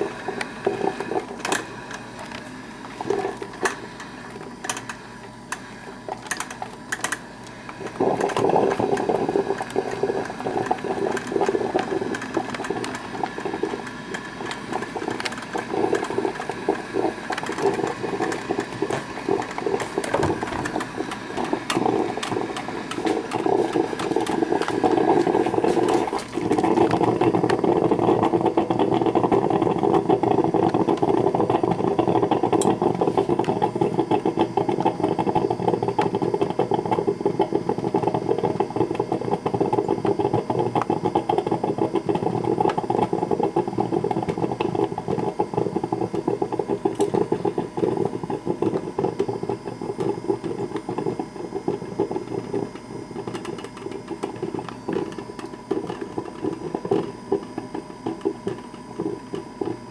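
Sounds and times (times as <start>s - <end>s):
coffee maker sputtering and gurgling: 0.0s - 59.9s.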